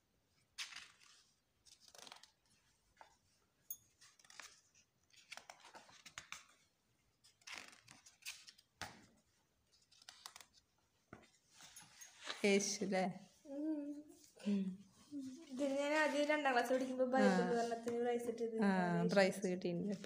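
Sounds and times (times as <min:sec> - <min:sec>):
paper pages rustling: 0:00.4 - 0:03.4, 0:04.0 - 0:12.8, 0:15.0 - 0:18.5, 0:19.1 - 0:20.0.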